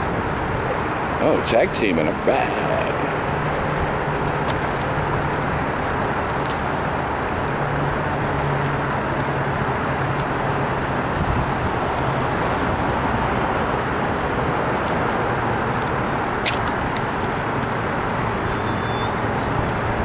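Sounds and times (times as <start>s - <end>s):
low engine hum: 0.0s - 20.0s
road traffic: 0.0s - 20.0s
wind noise on microphone: 2.9s - 20.0s.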